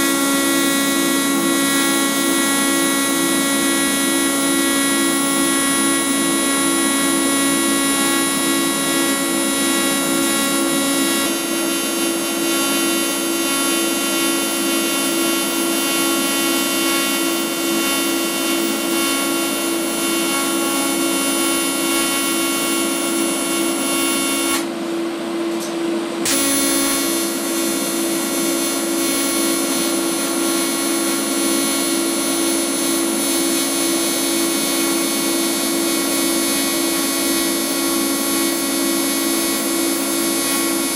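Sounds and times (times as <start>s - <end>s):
welding arc buzzing with hiss: 0.0s - 24.7s, 26.2s - 40.9s.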